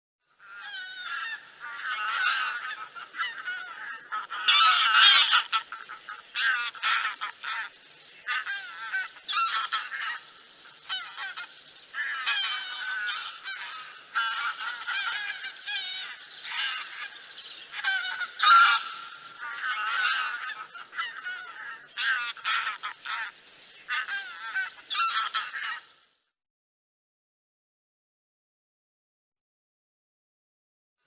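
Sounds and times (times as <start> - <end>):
wild geese honking: 0.3 - 26.1.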